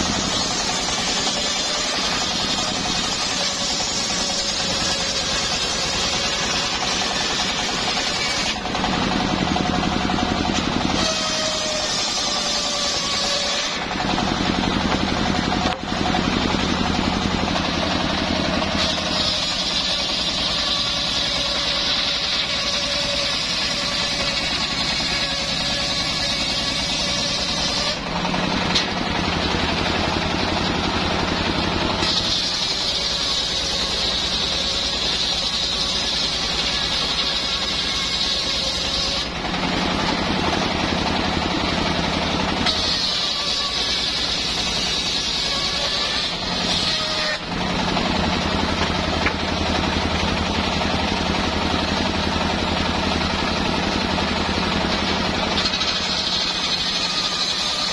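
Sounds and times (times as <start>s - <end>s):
circular saw cutting wood: 0.0s - 57.9s
engine chugging: 0.0s - 57.9s.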